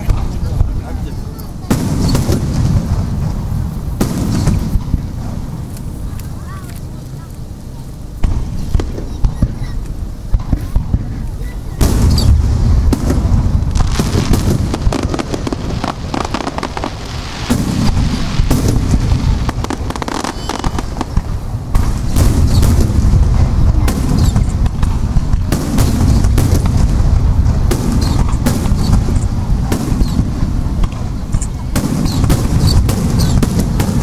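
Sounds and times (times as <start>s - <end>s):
continuous low rumble: 0.0s - 34.0s
firework shells bursting: 1.6s - 6.4s, 8.2s - 34.0s.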